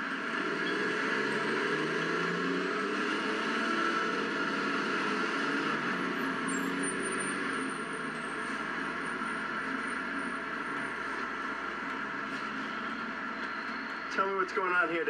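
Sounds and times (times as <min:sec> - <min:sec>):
cars driving past: 0:00.0 - 0:14.2
engine and tyre noise: 0:00.0 - 0:15.0.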